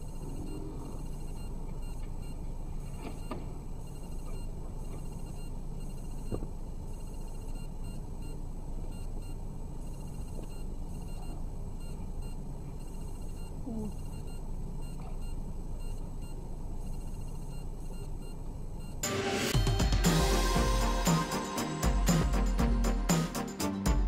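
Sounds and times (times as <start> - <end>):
faint electronic whine: 0.0 - 23.5.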